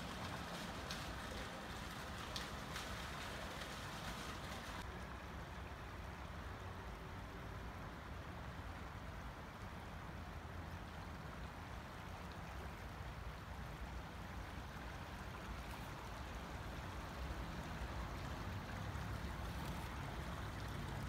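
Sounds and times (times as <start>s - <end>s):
low uneven rumble: 0.0s - 21.0s
river water rushing: 0.0s - 21.0s.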